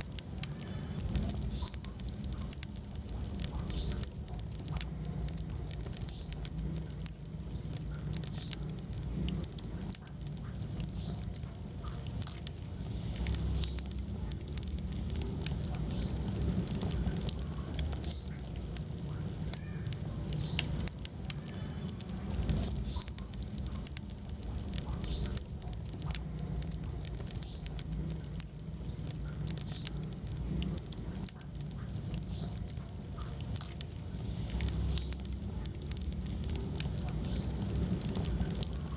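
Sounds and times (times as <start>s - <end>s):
low rumble of burning logs: 0.0s - 38.9s
wood fire crackling and popping: 0.0s - 38.9s.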